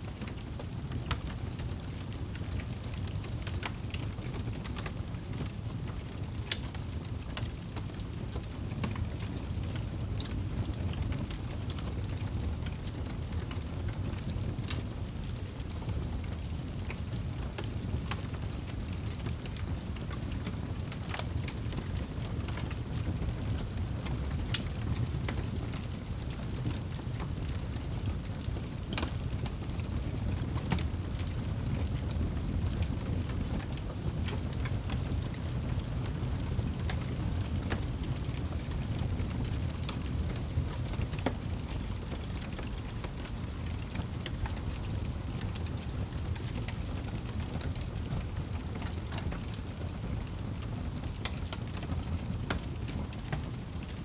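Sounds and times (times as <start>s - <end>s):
fire crackles and pops: 0.1s - 54.0s
fireplace flames roaring: 0.1s - 54.0s.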